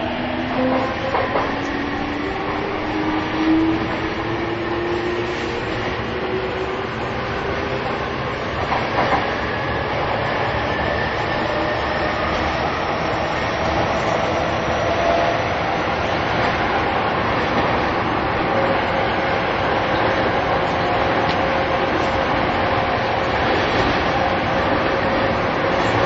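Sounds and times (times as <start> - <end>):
train rolling noise: 0.0 - 26.0.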